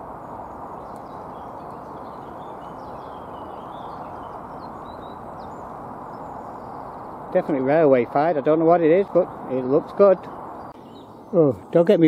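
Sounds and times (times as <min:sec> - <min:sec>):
birds chirping faintly: 0:00.0 - 0:12.0
outdoor background rush: 0:00.0 - 0:12.0.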